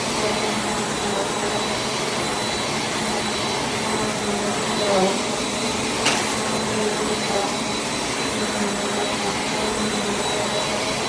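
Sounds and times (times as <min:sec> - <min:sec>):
vacuum cleaner running on rug: 0:00.0 - 0:11.0.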